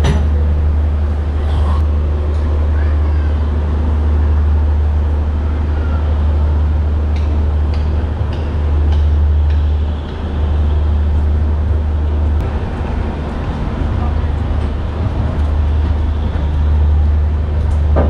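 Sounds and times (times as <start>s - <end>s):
train coach rumbling on rails: 0.0s - 18.0s.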